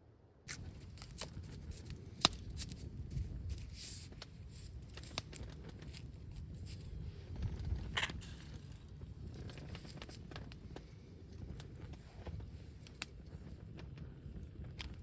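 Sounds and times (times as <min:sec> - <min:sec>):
wind rumbling on microphone: 0:00.5 - 0:15.0.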